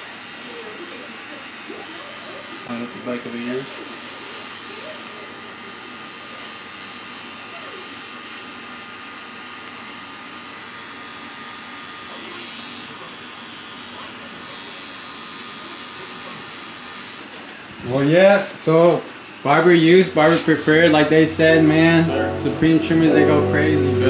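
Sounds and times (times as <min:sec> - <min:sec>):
hair trimmer motor humming: 0:00.0 - 0:17.2, 0:19.2 - 0:22.7.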